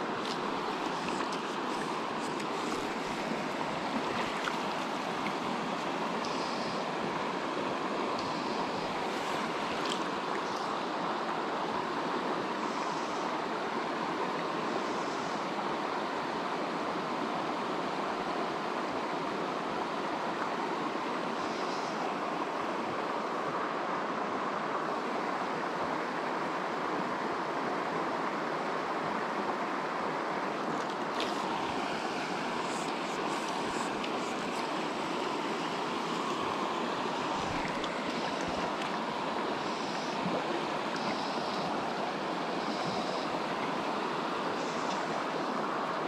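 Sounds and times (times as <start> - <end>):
river flowing over rocks: 0.0 - 46.0.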